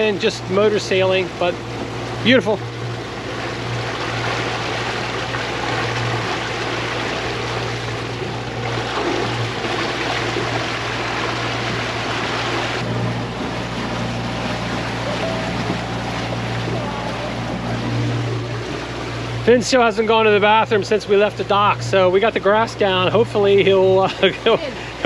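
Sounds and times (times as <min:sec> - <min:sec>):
diesel engine humming: 0:00.0 - 0:25.0
water rushing along hull: 0:00.0 - 0:25.0.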